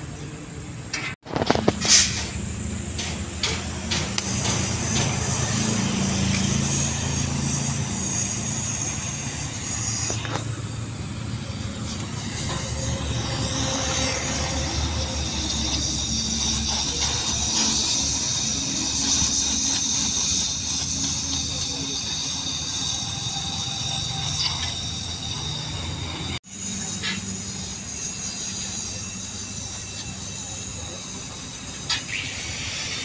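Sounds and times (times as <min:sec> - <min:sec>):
welding torch flame hissing: 0:00.1 - 0:33.0.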